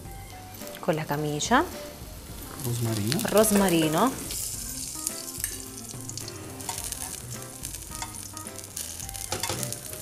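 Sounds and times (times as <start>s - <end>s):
oil sizzling in frying pan: 0.0s - 10.0s.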